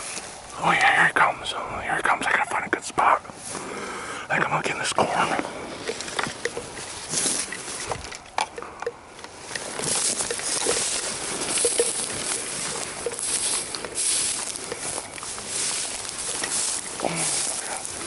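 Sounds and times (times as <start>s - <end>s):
dry grass rustling against clothing: 0.0s - 18.0s.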